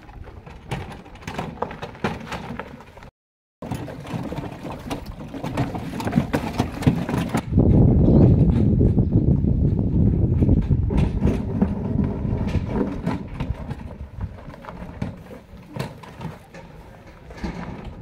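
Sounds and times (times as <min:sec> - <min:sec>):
handcart with jerrycans rattling: 0:00.0 - 0:09.0, 0:10.2 - 0:18.0.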